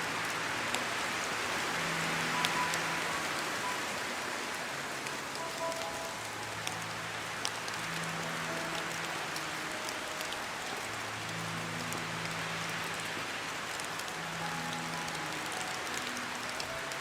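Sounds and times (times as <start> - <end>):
rain drop ticks: 0.0 - 17.0
steady rain: 0.0 - 17.0
low musical tones: 0.6 - 17.0.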